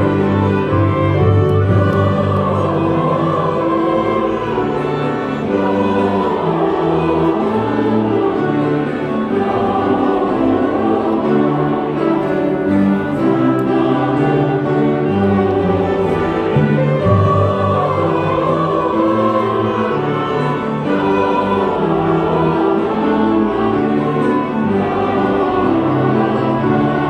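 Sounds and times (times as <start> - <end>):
choir singing a carol: 0.0 - 27.0
strings accompanying: 0.0 - 27.0.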